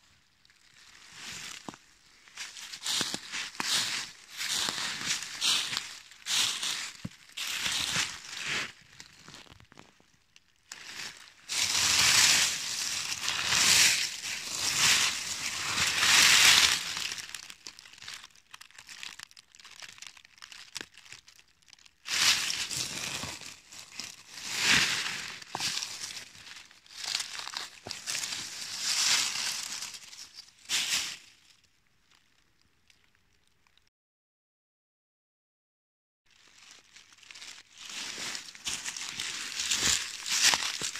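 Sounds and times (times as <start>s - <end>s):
dry leaves crunching and rustling: 0.5s - 10.0s, 10.7s - 31.6s, 36.3s - 40.9s.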